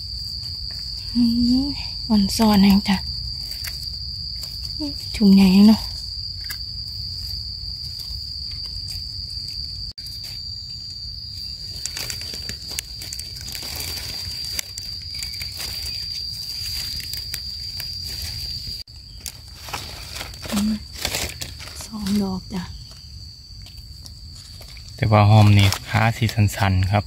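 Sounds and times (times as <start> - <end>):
high-pitched insect drone: 0.0 - 27.0
rustling of dry leaf litter: 0.0 - 27.0.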